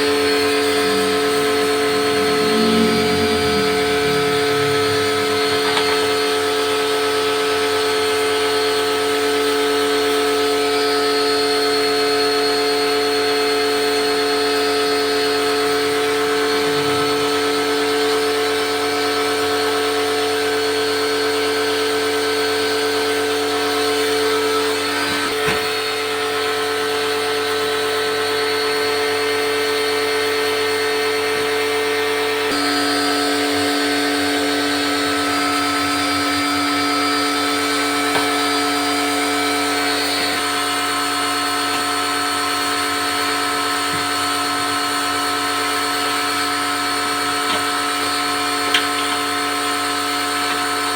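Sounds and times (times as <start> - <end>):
electric motor whining: 0.0 - 28.8, 32.4 - 50.4.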